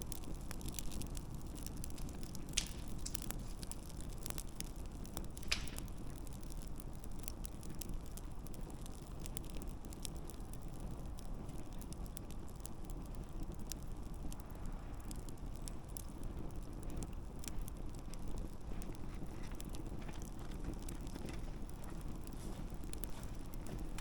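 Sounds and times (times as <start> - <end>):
campfire flame rushing: 0.0 - 24.0
fire popping and crackling: 0.0 - 24.0.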